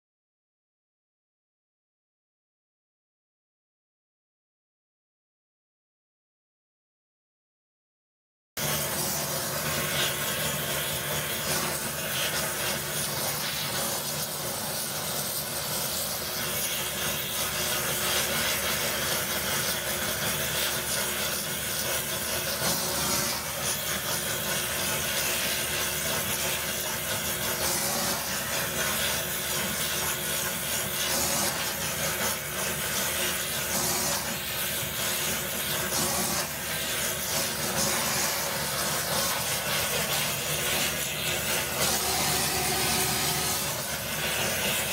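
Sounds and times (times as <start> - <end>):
gas torch flame hissing: 8.6 - 44.9.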